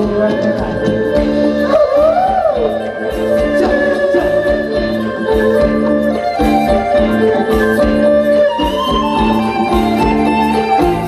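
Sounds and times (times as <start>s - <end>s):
dance band music: 0.0s - 11.0s
regular drum beat: 0.0s - 11.0s.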